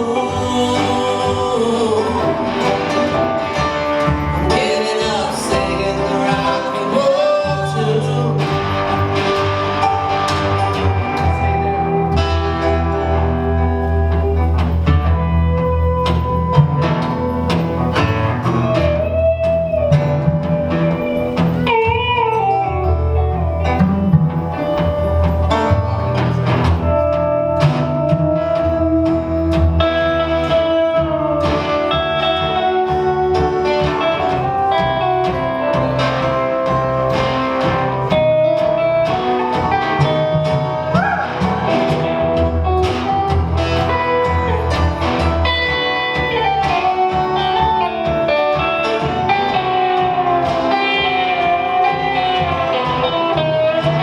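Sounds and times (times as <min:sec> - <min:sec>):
live blues band: 0:00.0 - 0:54.0.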